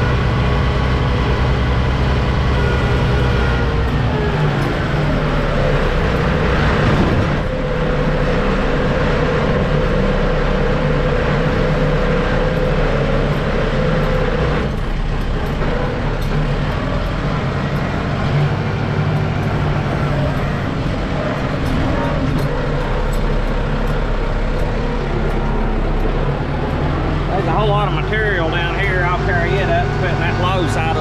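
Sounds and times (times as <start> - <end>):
steady whine: 0.0 - 31.0
tractor diesel engine running: 0.0 - 31.0.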